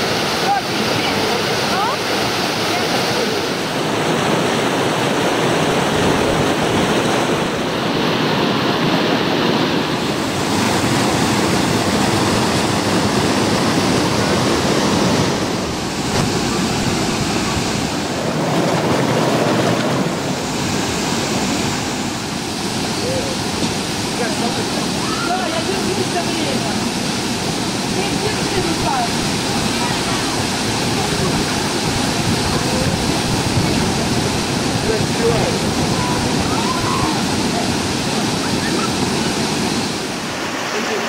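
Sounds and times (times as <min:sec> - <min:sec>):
water rushing over boulders: 0:00.0 - 0:41.0.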